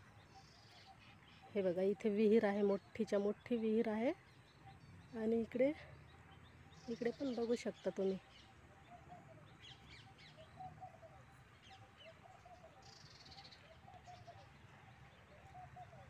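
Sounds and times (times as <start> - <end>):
birds calling faintly: 0.0 - 16.0.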